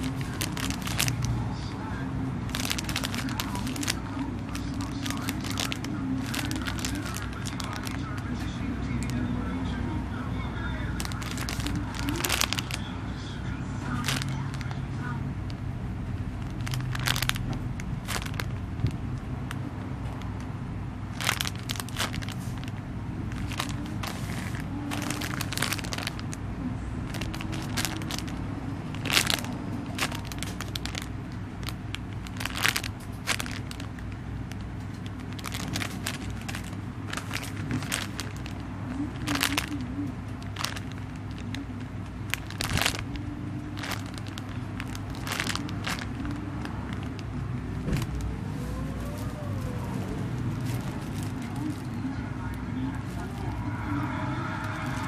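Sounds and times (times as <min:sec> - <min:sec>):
plastic packaging crinkling: 0:00.0 - 0:09.5, 0:10.6 - 0:26.4, 0:27.0 - 0:55.0
low background hum: 0:00.0 - 0:55.0.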